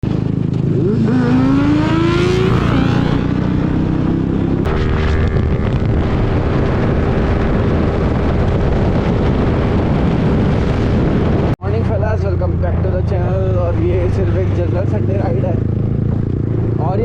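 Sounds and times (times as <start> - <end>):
motorcycle engine revving: 0.0 - 10.8, 12.0 - 17.0
wind noise rumble: 0.0 - 17.0.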